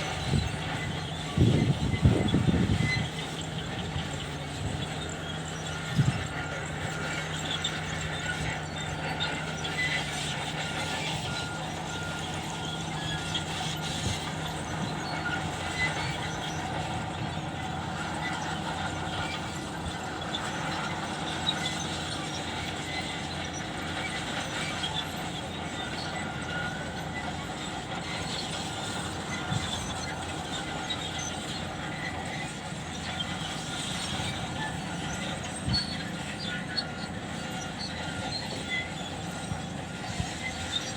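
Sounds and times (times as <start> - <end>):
heavy machinery diesel hum: 0.0 - 40.9.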